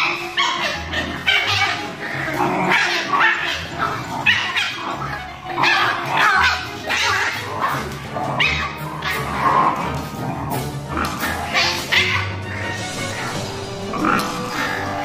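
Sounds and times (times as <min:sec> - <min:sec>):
background music with bass line: 0:00.0 - 0:15.0
dogs yipping and barking: 0:00.0 - 0:15.0.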